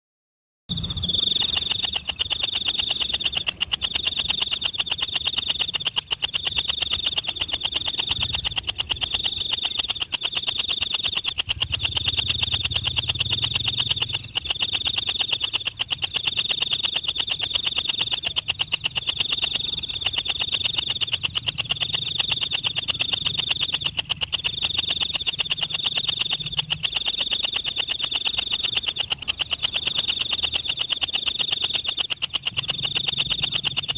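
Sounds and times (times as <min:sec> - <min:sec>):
insect high-pitched pulsing trill: 0:00.7 - 0:33.9.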